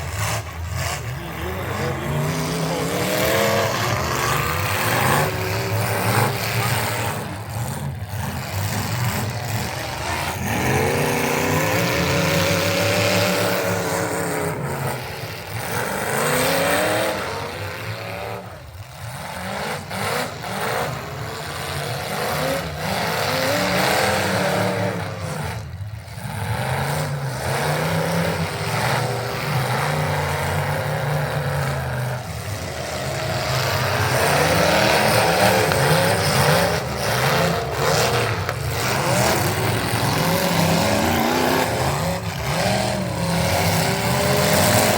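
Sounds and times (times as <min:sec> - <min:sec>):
truck engine running hard: 0:00.0 - 0:44.9.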